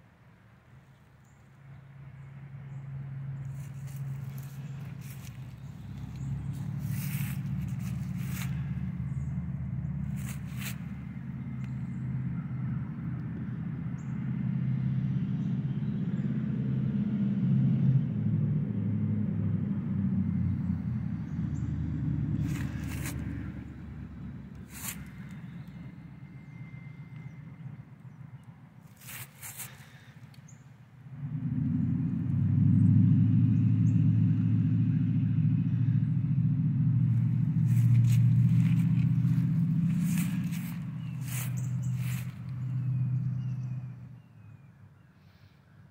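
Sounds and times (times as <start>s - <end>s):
low engine rumble: 1.2s - 44.6s.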